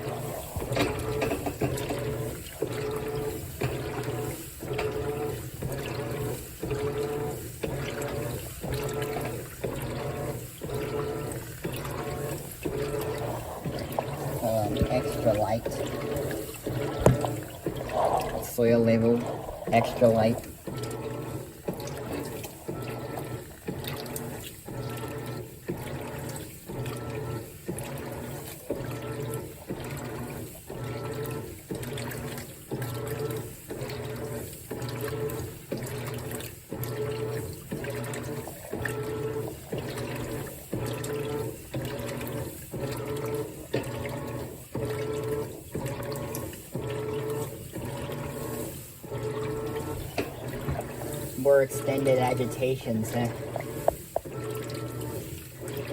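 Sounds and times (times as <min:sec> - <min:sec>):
washing machine motor whine: 0:00.0 - 0:55.9
water sloshing in tub: 0:00.0 - 0:55.9.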